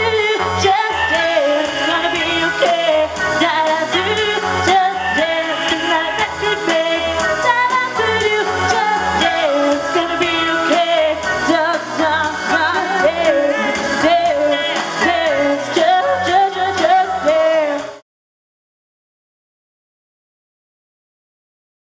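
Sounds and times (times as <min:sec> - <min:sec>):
pop song with sung melody: 0:00.0 - 0:18.0.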